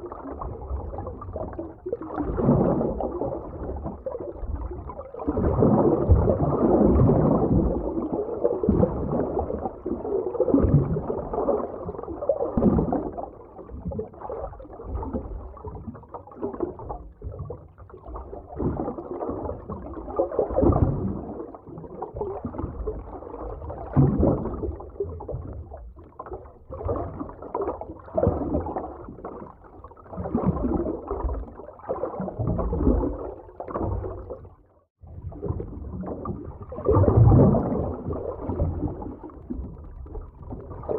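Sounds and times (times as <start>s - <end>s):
underwater water gurgling: 0.0s - 40.9s.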